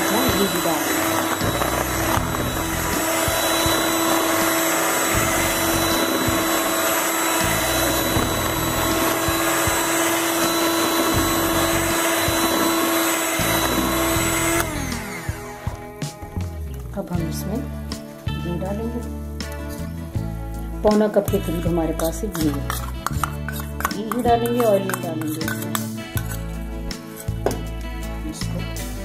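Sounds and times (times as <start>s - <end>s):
electric hand mixer whine: 0.0s - 16.8s, 21.3s - 28.2s.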